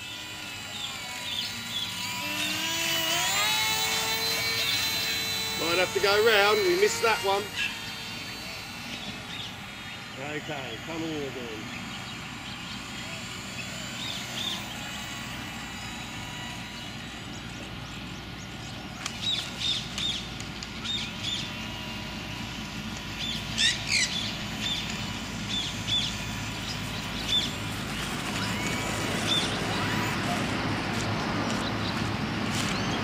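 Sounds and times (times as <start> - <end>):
birds chirping: 0.0 - 33.0
outdoor background noise: 0.0 - 33.0.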